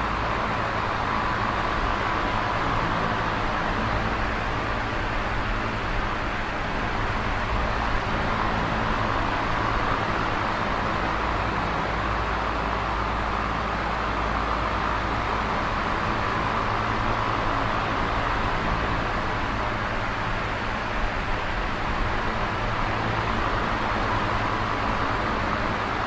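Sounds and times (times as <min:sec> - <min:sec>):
electric fan whooshing: 0:00.0 - 0:26.0.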